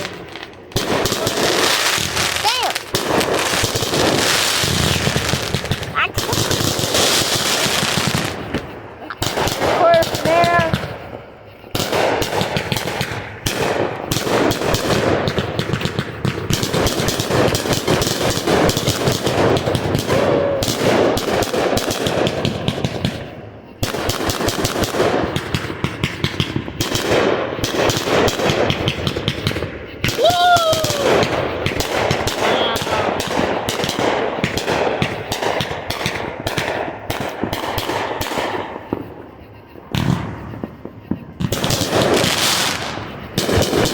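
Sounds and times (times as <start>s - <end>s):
fireworks popping and crackling: 0.0s - 43.9s.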